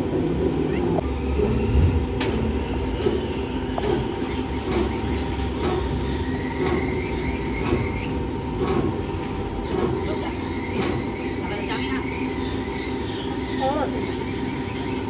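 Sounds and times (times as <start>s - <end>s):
low machine drone: 0.0s - 15.0s.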